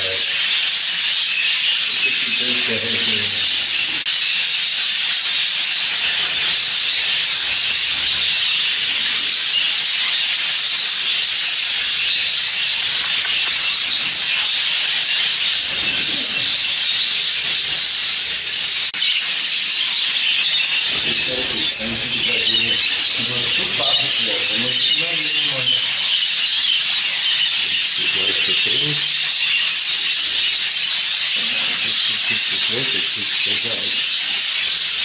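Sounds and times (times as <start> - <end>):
budgerigars chattering: 0.0 - 35.0.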